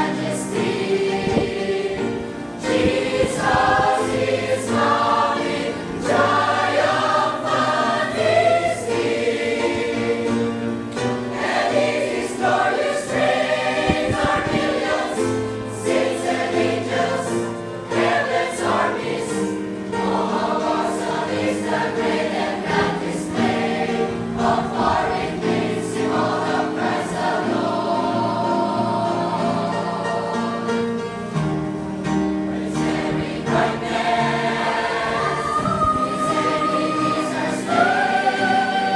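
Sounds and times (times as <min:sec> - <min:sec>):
church choir singing: 0:00.0 - 0:38.9.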